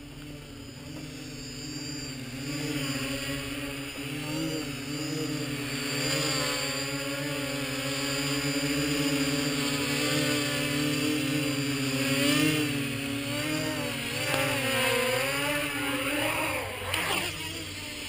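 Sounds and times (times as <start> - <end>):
quadcopter motors buzzing: 0.0 - 18.0.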